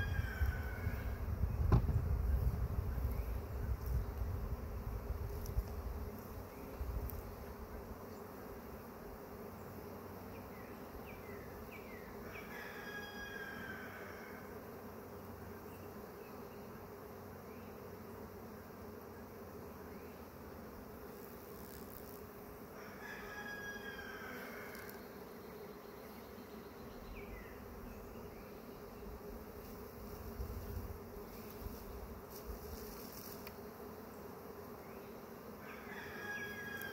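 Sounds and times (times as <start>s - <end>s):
bee swarm humming: 0.0s - 36.9s.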